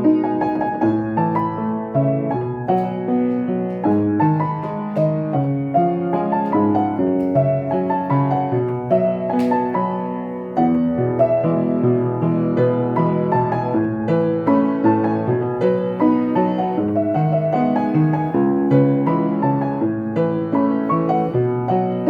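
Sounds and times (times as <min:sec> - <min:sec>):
gentle solo piano melody: 0:00.0 - 0:22.0.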